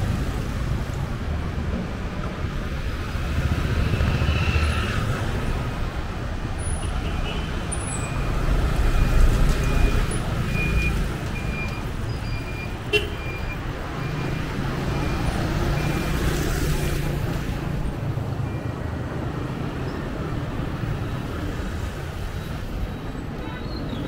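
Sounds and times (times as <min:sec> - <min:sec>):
traffic engines humming: 0:00.0 - 0:24.0.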